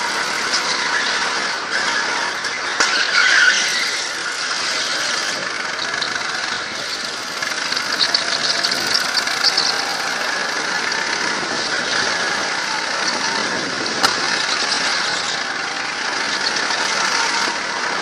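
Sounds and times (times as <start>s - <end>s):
go-kart engine running: 0.0s - 18.0s
tyres squealing: 0.0s - 18.0s.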